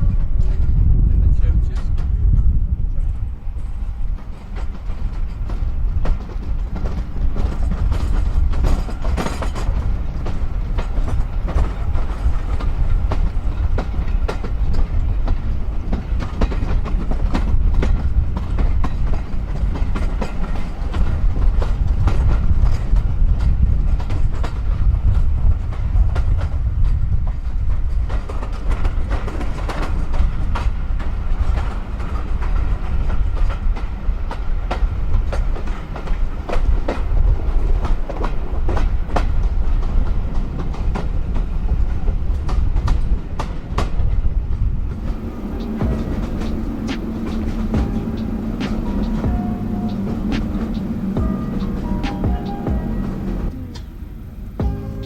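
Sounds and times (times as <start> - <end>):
train rumbling: 0.0 - 55.0
wheels clicking over rail joints: 1.6 - 55.0.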